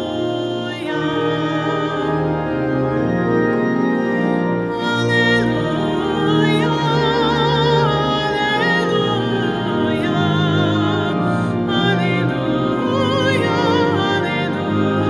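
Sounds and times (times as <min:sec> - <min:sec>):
person singing with vibrato: 0:00.0 - 0:03.2, 0:04.6 - 0:15.0
church organ chords: 0:00.0 - 0:15.0.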